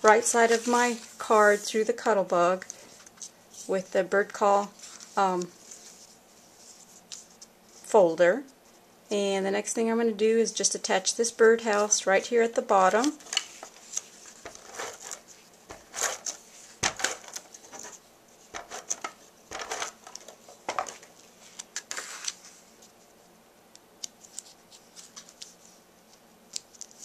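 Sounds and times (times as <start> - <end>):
paper and card being handled: 0.0 - 7.9, 11.4 - 23.1, 24.0 - 27.0.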